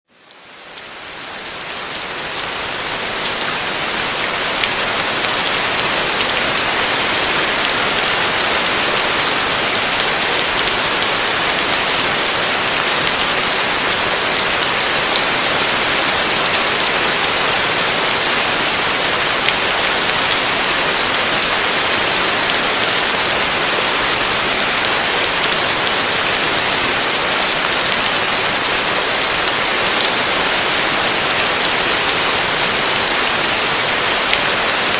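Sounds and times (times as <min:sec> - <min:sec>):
heavy rain on a roof: 0:00.1 - 0:34.9.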